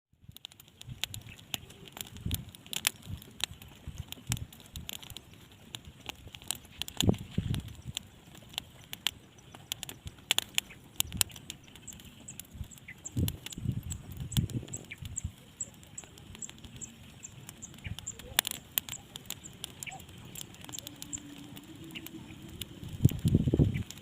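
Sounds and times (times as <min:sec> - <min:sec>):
sharp clicks and patter: 0:00.2 - 0:24.0.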